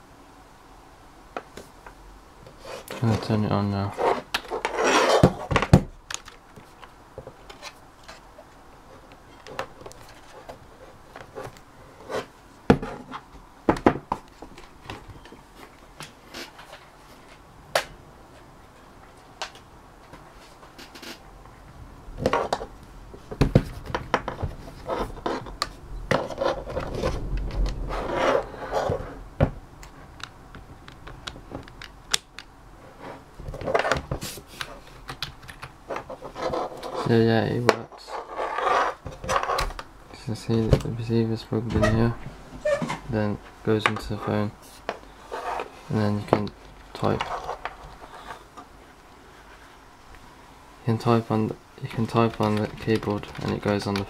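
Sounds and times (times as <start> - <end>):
rubbing and rustling: 2.4 - 17.5, 18.2 - 21.3, 22.1 - 32.0, 32.8 - 50.1.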